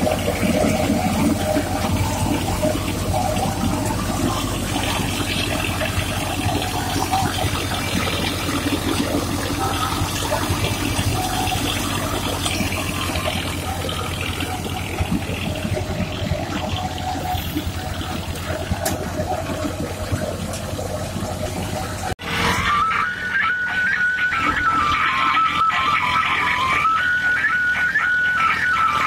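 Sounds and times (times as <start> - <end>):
thresher rushing noise: 0.0 - 26.8
diesel tractor engine drone: 0.0 - 29.0.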